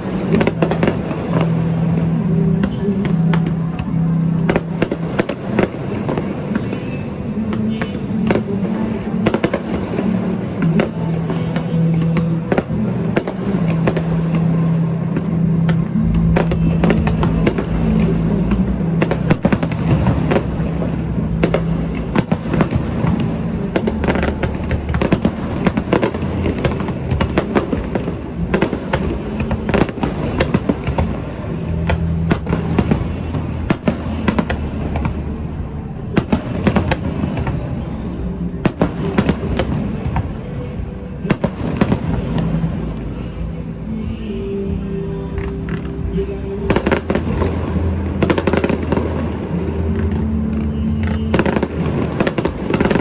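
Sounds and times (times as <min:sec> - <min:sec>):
fireworks bursting and crackling: 0:00.0 - 0:53.0
music playing: 0:00.0 - 0:53.0.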